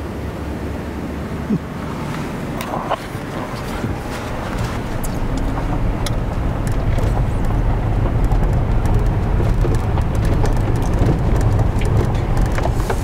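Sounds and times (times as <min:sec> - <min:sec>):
engine and tyres on gravel: 0:00.0 - 0:13.0.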